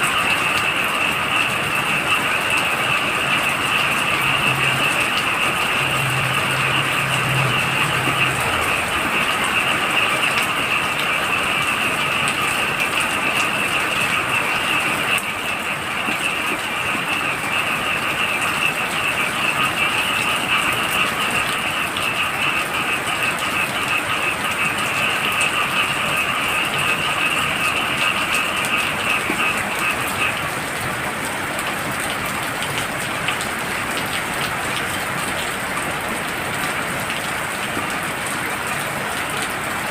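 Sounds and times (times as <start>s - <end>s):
frogs trilling: 0.0s - 39.9s
heavy rain falling: 0.0s - 39.9s.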